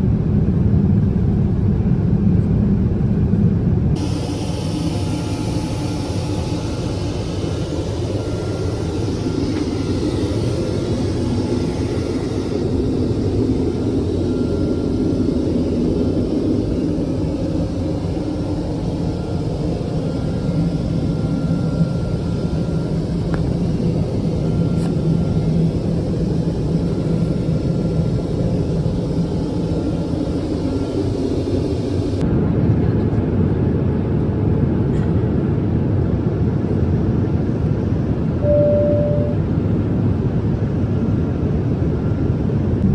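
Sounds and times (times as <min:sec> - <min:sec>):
jet engine and airflow in cabin: 0:00.0 - 0:42.9.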